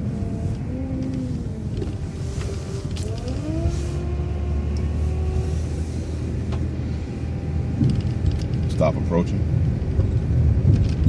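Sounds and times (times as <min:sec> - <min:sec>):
bus engine rumbling and whining: 0:00.0 - 0:11.0.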